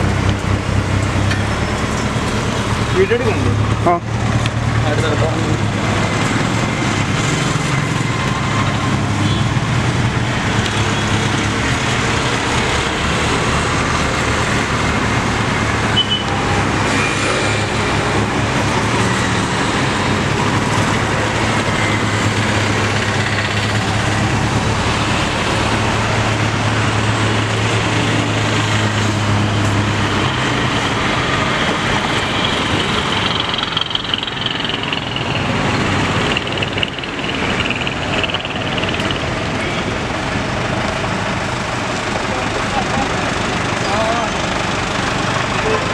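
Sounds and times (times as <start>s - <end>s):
diesel truck engine droning: 0.0s - 45.9s.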